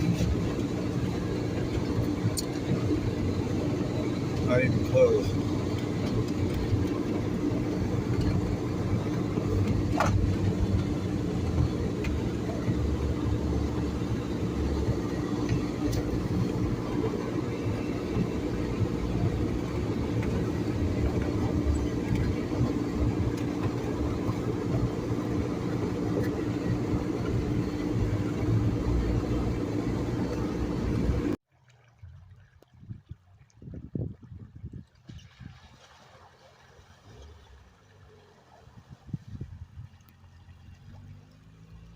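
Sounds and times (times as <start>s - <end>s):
vehicle engine drone: 0.0s - 31.4s, 36.7s - 41.9s
low uneven rumble: 0.0s - 41.9s.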